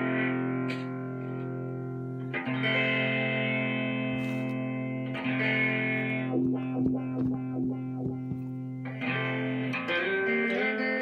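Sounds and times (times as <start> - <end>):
choppy guitar strikes: 0.0 - 11.0
electric guitar through wah pedal: 0.0 - 11.0.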